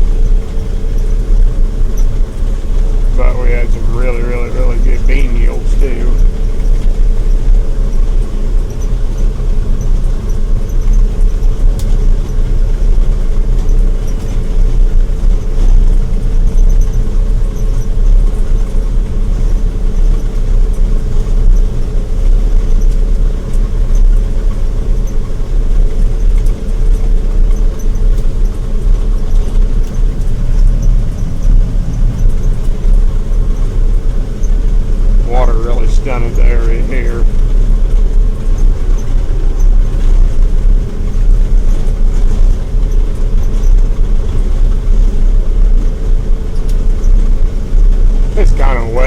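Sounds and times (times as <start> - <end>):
combine harvester running: 0.0 - 49.0.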